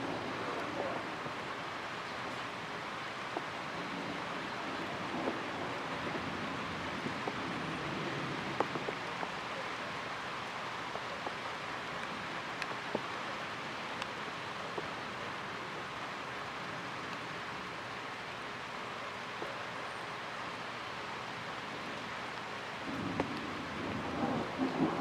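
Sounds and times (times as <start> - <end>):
raindrops ticking close by: 0.0 - 25.0
steady rain falling: 0.0 - 25.0.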